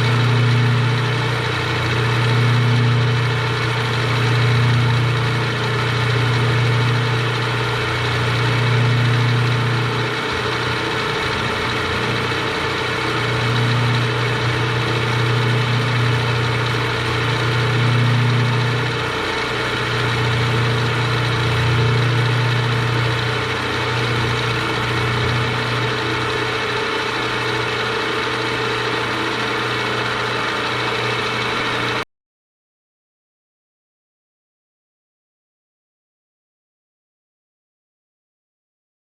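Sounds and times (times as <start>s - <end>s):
electric metal-cutting machine: 0.0s - 32.0s.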